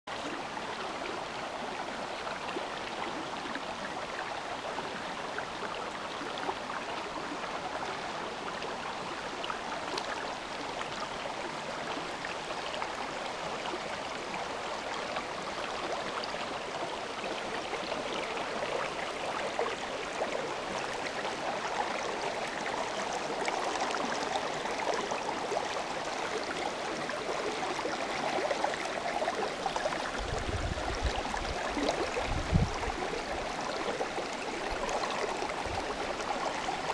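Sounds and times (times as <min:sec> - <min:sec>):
stream babbling over stones: 0:00.1 - 0:36.9.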